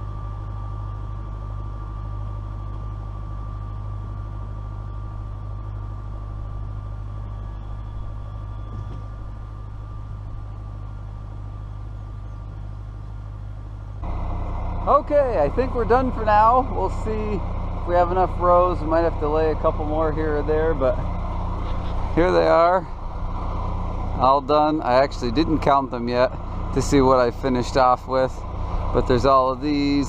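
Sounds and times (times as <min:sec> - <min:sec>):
thin steady whine: 0:00.0 - 0:30.0
tractor diesel engine droning: 0:00.0 - 0:30.0.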